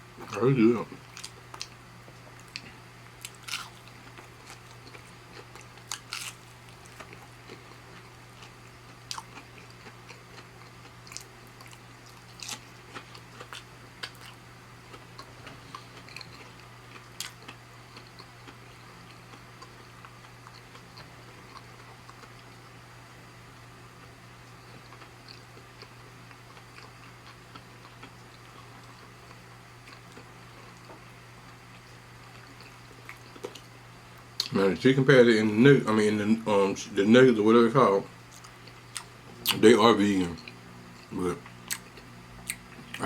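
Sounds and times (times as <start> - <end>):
faint low hum: 0.0 - 43.0
person chewing and crunching: 1.0 - 22.8, 24.4 - 33.7, 38.3 - 39.7, 40.3 - 43.0.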